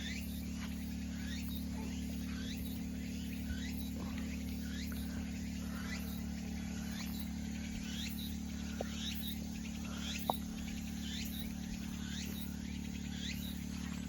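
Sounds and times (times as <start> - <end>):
insect rising chirp: 0.0 - 14.0
insects pulsing song: 0.0 - 14.0
steady low hum: 0.0 - 14.0.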